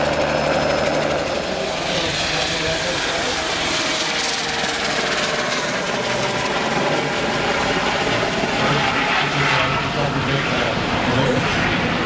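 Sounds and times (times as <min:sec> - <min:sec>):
helicopter in flight: 0:00.0 - 0:12.0.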